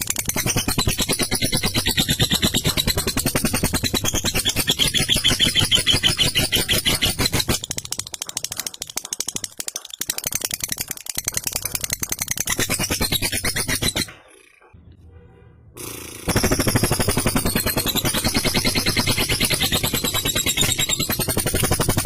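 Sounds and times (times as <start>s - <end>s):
lovebird rattling chatter call: 0.0s - 14.6s, 15.8s - 22.0s.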